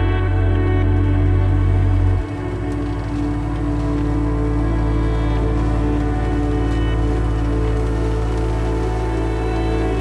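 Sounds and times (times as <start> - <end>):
calm instrumental music: 0.0 - 10.0
deep drone: 0.0 - 10.0.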